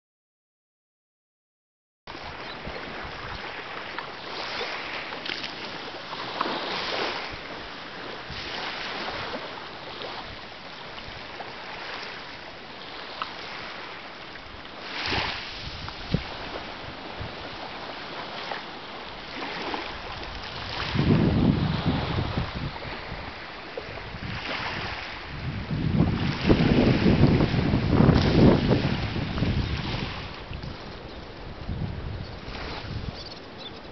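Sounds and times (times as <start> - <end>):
small waves washing onto sand: 2.1 - 33.9
wind buffeting microphone: 2.2 - 12.1, 14.9 - 18.6, 19.2 - 33.9.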